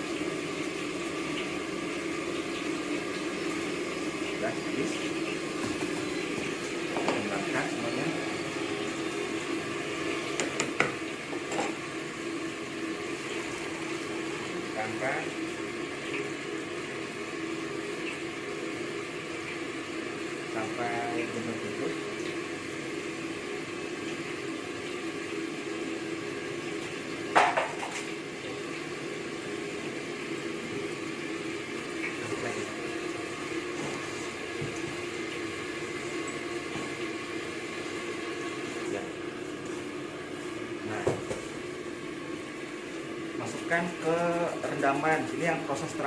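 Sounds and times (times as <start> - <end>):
background hiss and hum: 0.0 - 46.0
chicken deep-frying in oil: 0.0 - 46.0.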